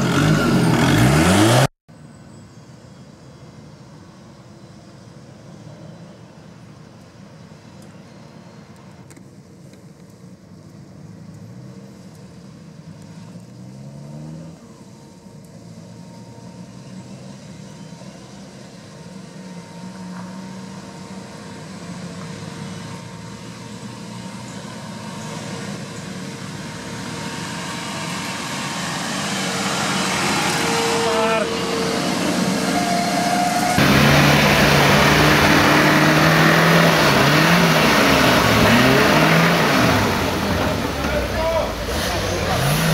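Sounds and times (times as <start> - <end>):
off-road vehicle engine at low revs: 0.0 - 2.4, 4.2 - 42.9.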